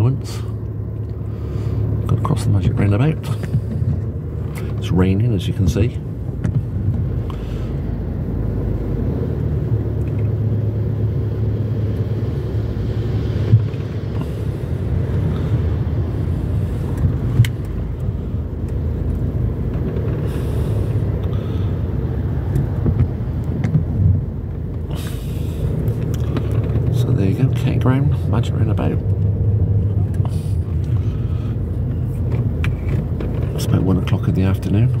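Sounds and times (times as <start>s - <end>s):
car engine low rumble: 0.0s - 35.0s
road noise inside car: 0.0s - 35.0s.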